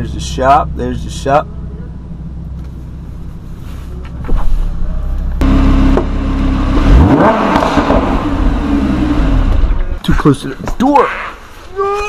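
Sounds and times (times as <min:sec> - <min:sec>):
car engine running and revving: 0:00.1 - 0:10.3.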